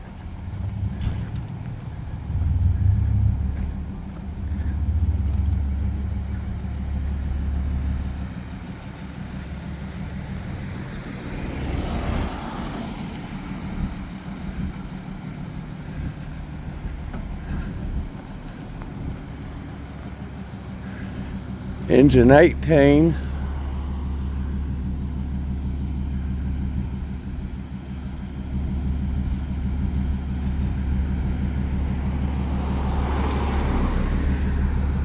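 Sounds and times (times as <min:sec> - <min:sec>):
diesel engine idling: 0:00.0 - 0:35.0
street traffic: 0:00.0 - 0:35.0.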